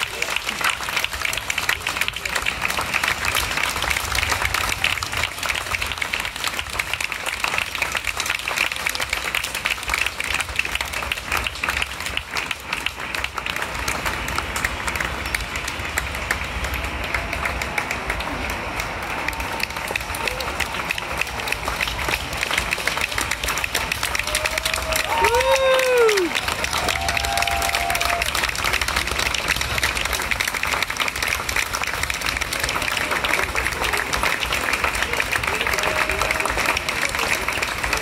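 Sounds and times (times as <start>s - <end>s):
crowd clapping: 0.0s - 38.0s.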